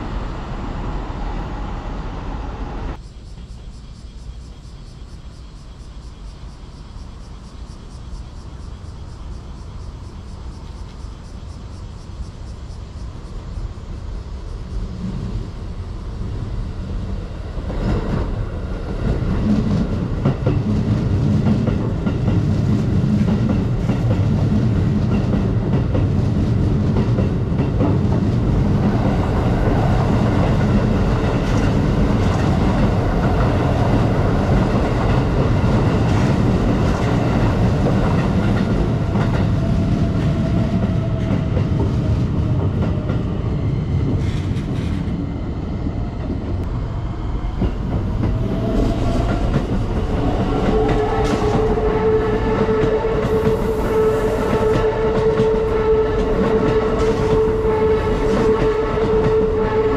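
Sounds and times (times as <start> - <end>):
electric train running on rails: 0.0 - 59.9.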